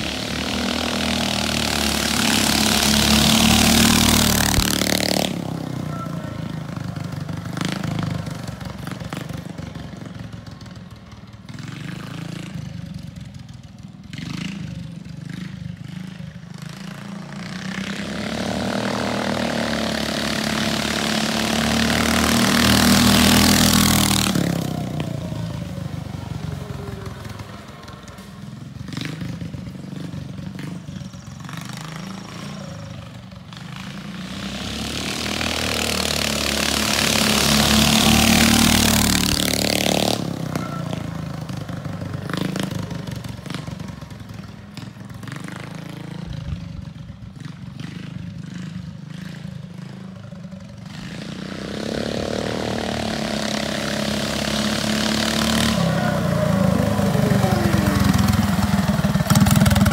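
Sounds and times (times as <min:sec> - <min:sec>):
trike engine riding past: 0:00.0 - 0:59.9.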